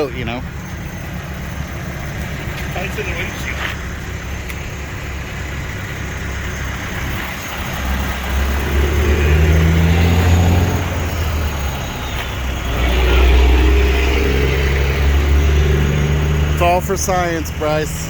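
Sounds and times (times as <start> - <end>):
large vehicle engine running: 0.0 - 18.0.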